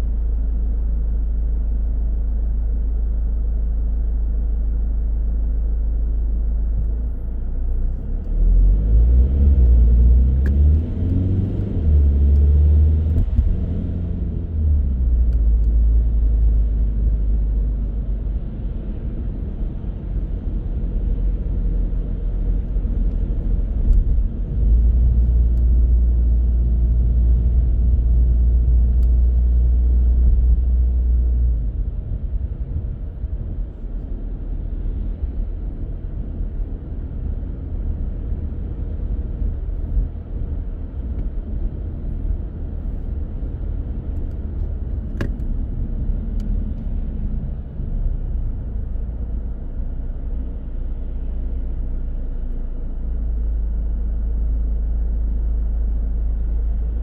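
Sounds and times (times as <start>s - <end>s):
car engine and tyres rumble: 0.0s - 57.0s.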